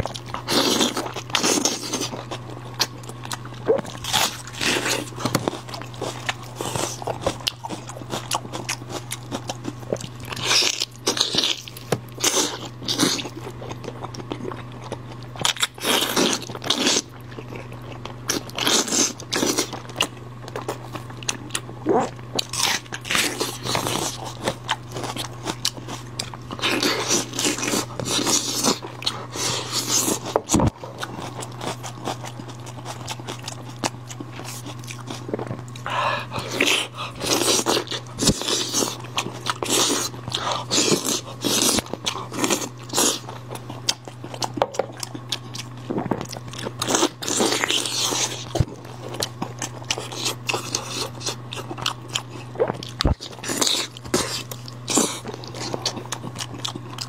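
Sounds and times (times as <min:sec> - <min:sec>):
chewing and gnawing meat: 0:00.0 - 0:57.0
crunching raw onion: 0:00.0 - 0:57.0.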